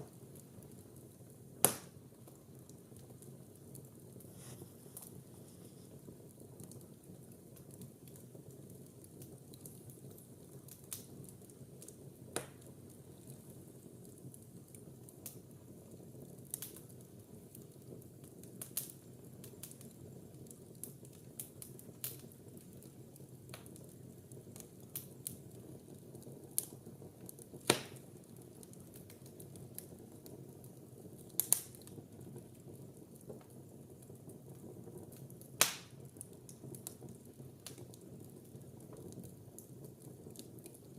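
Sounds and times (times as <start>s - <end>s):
fire burning and crackling: 0.0s - 40.9s
loud fire pops: 0.0s - 40.9s.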